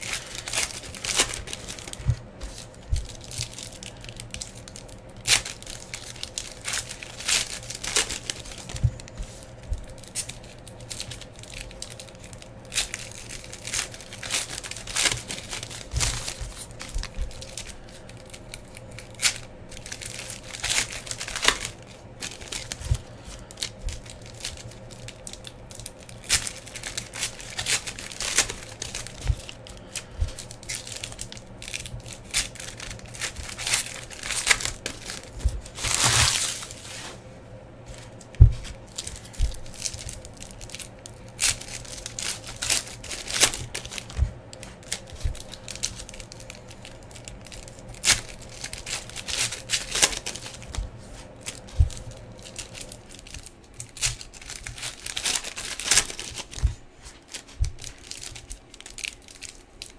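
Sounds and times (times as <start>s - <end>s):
foil wrappers tearing and crinkling: 0.0s - 37.2s, 37.9s - 59.9s.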